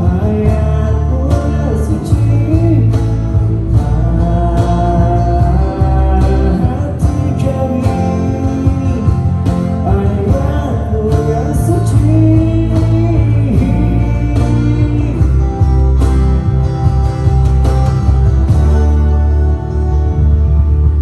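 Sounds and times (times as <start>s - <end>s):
bending melody line: 0.0s - 21.0s
live band playing: 0.0s - 21.0s.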